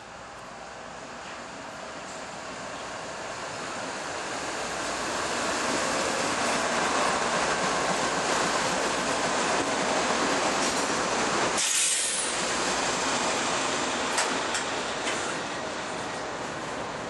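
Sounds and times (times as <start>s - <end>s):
diesel locomotives passing: 0.0s - 17.0s.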